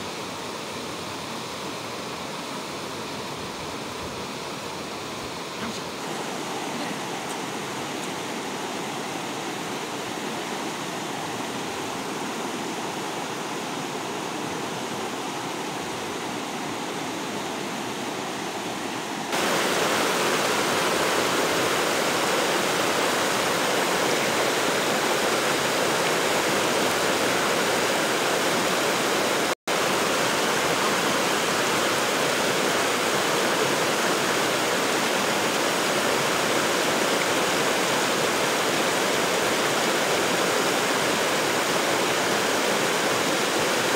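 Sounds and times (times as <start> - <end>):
fast-flowing stream rushing: 0.0 - 43.9.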